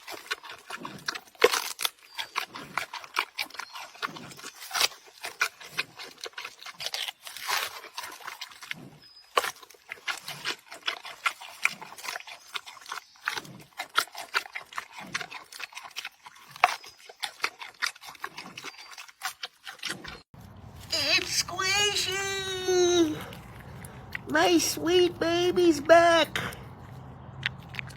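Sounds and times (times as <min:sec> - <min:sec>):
animal chewing and crunching food: 0:00.0 - 0:27.9.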